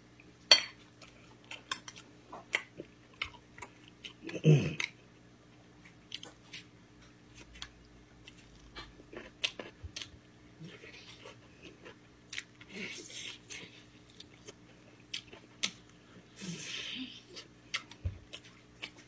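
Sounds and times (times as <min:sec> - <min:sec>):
person chewing and eating: 0:00.8 - 0:19.0.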